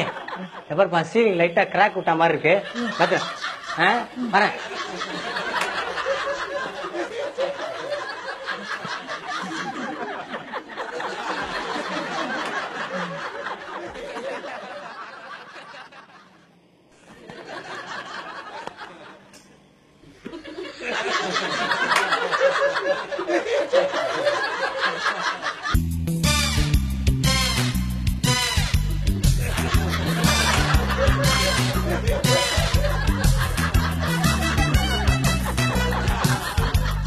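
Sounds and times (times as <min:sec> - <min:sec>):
audience laughter: 0:00.0 - 0:01.0, 0:01.7 - 0:19.4, 0:20.1 - 0:25.8, 0:29.2 - 0:37.0.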